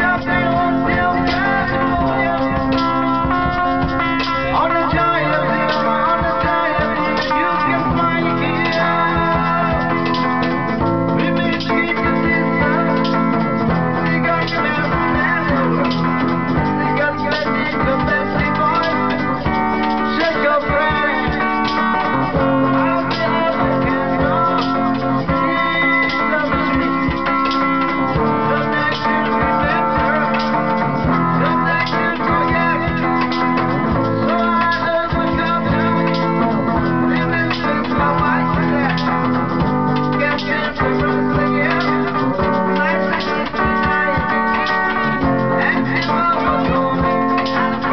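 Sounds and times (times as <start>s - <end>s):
guitar strumming: 0.0s - 47.9s
person singing: 0.0s - 47.9s.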